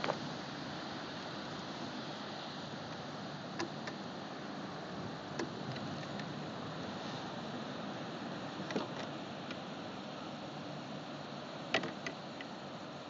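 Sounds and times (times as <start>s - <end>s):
wind and water on open sea: 0.0s - 13.0s.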